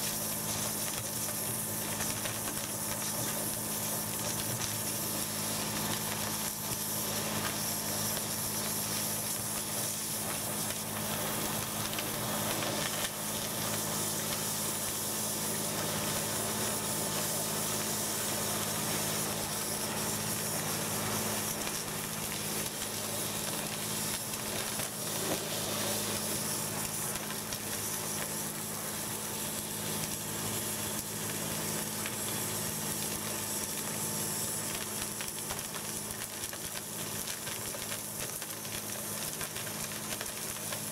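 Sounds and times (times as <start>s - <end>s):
high-pressure water spray hissing: 0.0s - 40.9s.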